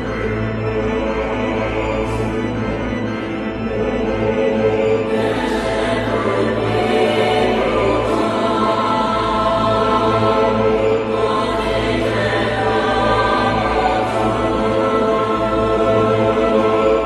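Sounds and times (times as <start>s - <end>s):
choir-like sustained voices: 0.0s - 17.0s
low drone: 0.0s - 17.0s.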